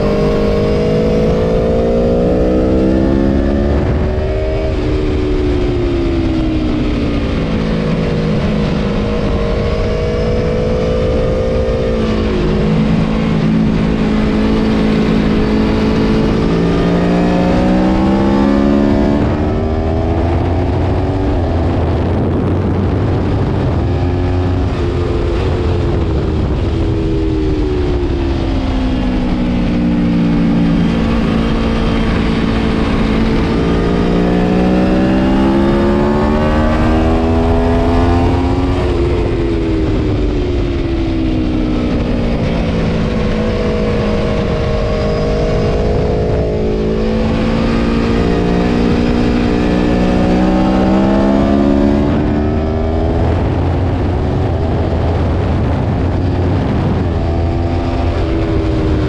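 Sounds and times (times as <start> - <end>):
motorcycle engine revving: 0.0 - 59.0
steady rushing noise: 0.0 - 59.0.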